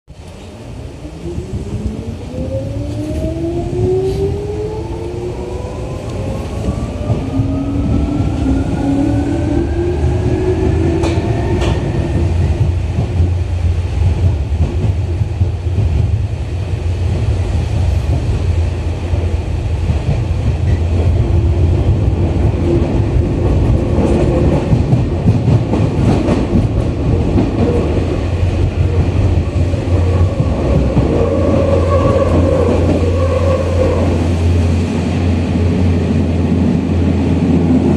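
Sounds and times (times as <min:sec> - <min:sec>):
wheels rumbling on rail: 0:00.1 - 0:37.9.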